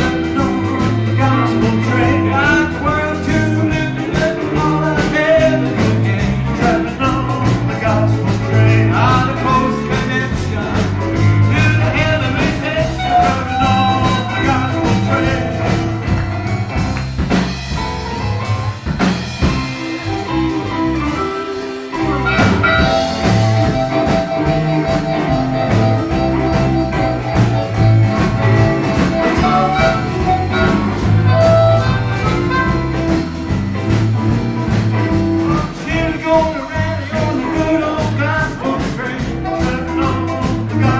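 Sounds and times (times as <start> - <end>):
live band playing blues-rock: 0.0 - 40.9.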